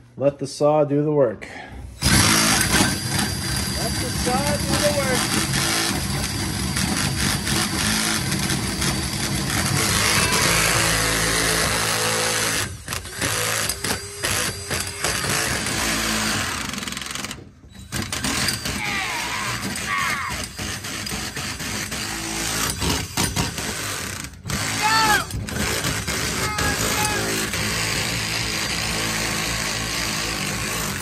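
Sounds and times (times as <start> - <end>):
drill hole saw grinding steel: 2.0 - 31.0.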